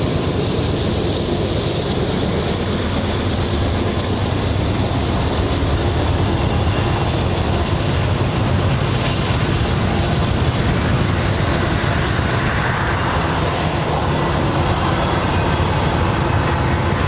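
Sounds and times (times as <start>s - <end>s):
steel wheels rolling on rail: 0.0s - 17.0s.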